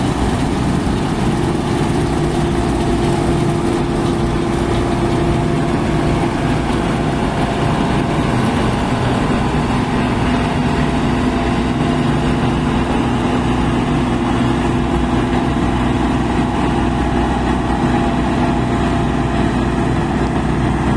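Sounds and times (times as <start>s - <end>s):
combine harvester droning: 0.0s - 20.9s
machinery whine: 0.0s - 20.9s.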